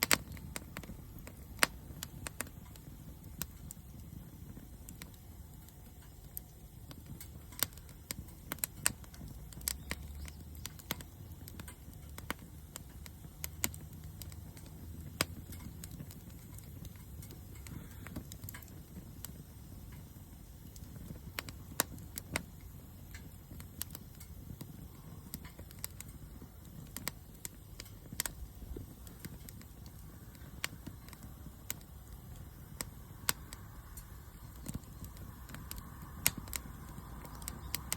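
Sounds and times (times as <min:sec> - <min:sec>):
low rumble of flame: 0:00.0 - 0:37.9
wood fire crackling and popping: 0:00.0 - 0:37.9.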